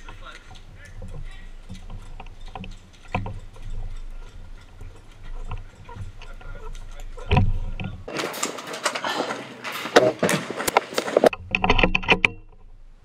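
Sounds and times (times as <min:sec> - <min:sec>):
rustling clicks and knocks: 0:00.0 - 0:12.8.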